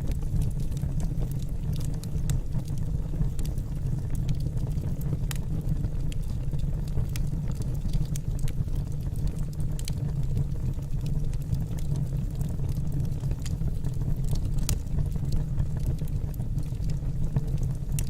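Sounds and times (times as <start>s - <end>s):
burning logs crackling and popping: 0.0s - 18.0s
low rumble of flames: 0.0s - 18.0s.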